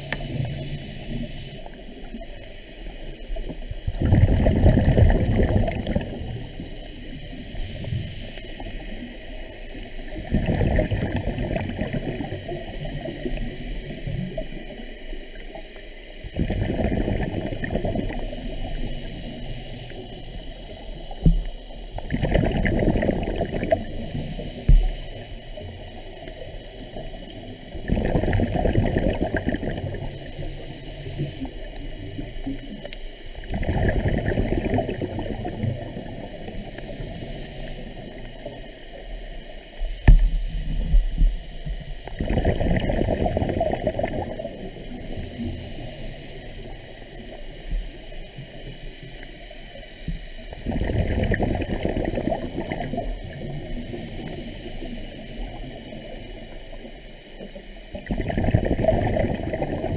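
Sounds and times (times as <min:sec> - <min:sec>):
underwater exhaled bubbles: 0:00.0 - 0:59.9.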